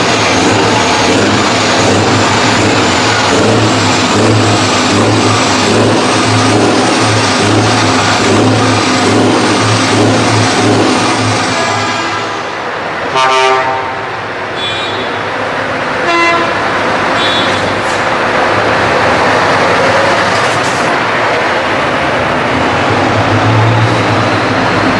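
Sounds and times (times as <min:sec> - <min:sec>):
truck diesel engine running: 0:00.0 - 0:11.7, 0:15.4 - 0:24.9.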